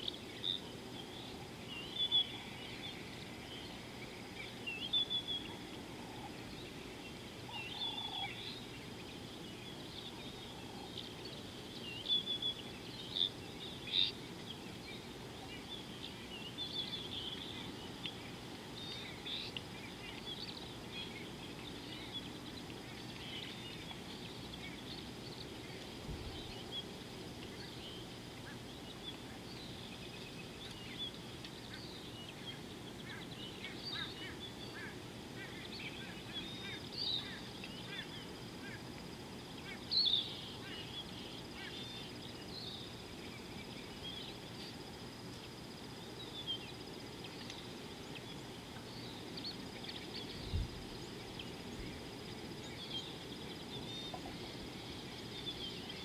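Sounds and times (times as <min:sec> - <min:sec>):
birds chirping: 0:00.0 - 0:56.0
low background hum: 0:00.0 - 0:56.0.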